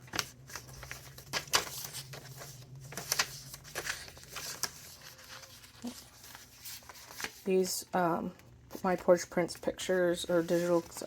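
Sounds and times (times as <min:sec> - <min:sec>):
paper pages crinkling: 0:00.0 - 0:07.7, 0:08.8 - 0:11.0.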